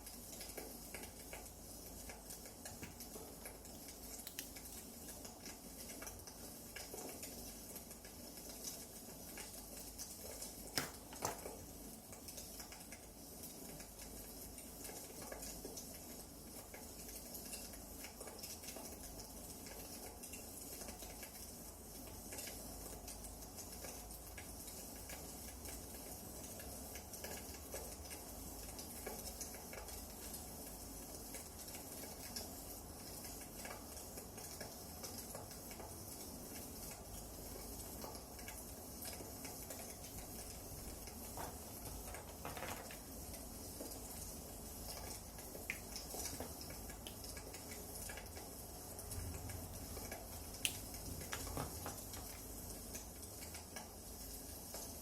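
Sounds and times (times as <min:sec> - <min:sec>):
fire crackles and pops: 0:00.0 - 0:55.0
wood fire hissing: 0:00.0 - 0:55.0.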